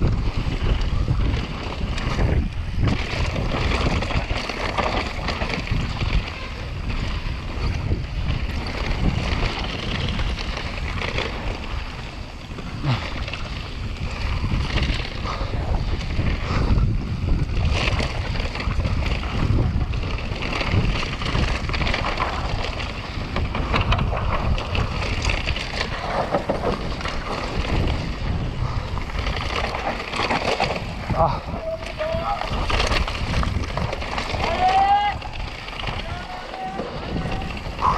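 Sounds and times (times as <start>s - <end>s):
bike rattling over rough ground: 0.0s - 37.9s
wind buffeting microphone: 0.0s - 37.9s.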